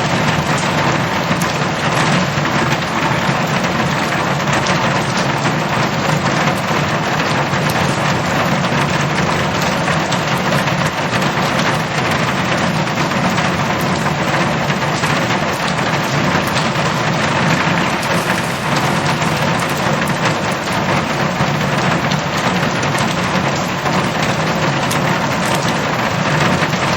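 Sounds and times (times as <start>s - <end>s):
heavy rain on a metal roof: 0.0s - 26.9s.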